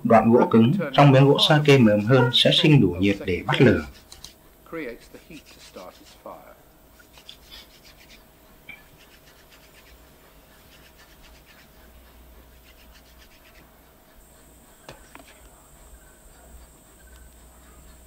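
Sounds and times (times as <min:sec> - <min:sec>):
wooden stick rubbing on wood: 0:01.2 - 0:06.4, 0:07.0 - 0:18.0.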